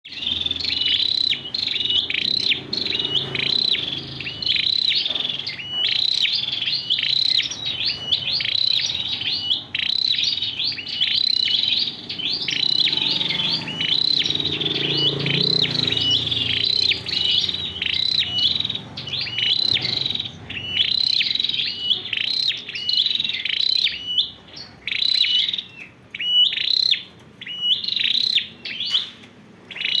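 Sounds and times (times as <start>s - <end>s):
bird singing rapid high chirps: 0.1s - 30.0s.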